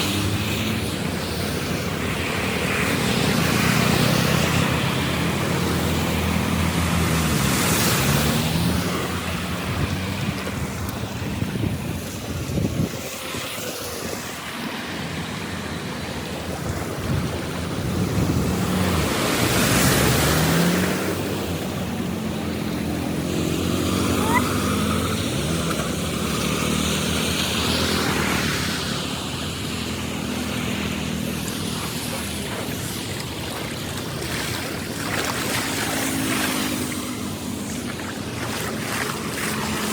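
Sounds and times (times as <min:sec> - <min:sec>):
water rushing through a drain: 0:00.0 - 0:39.9.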